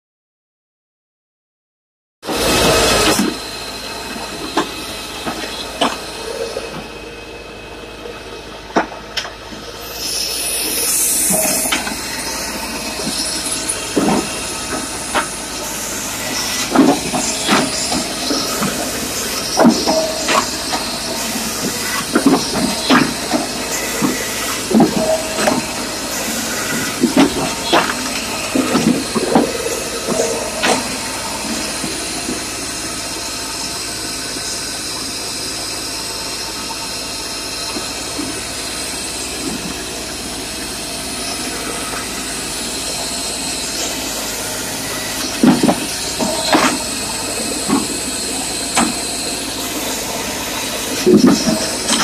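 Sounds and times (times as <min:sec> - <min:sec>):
firewood processor running: 0:02.2 - 0:52.0.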